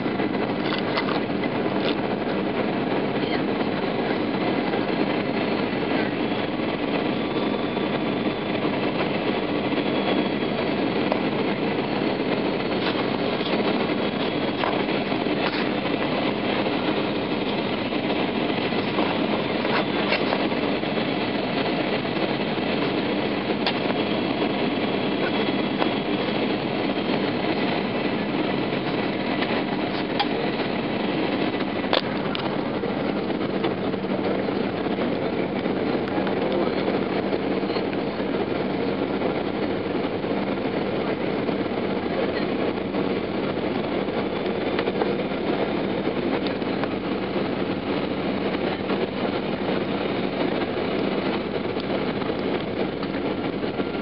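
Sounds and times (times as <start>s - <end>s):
airplane cabin air and engine noise: 0.0s - 54.0s
constant low hum: 0.0s - 54.0s.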